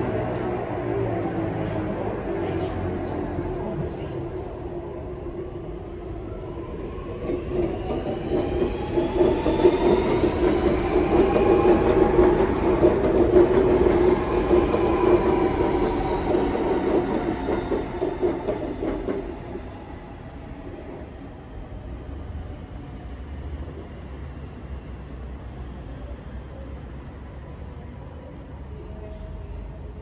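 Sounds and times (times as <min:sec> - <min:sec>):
train running past: 0:00.0 - 0:30.0.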